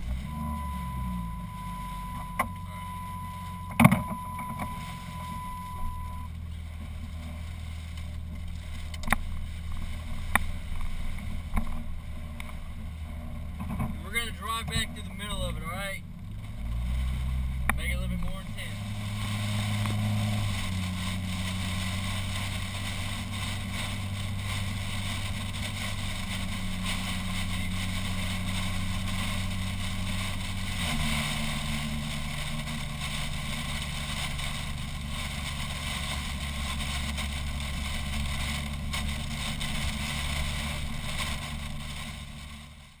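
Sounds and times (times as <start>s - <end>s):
car engine and road drone: 0.0s - 43.0s.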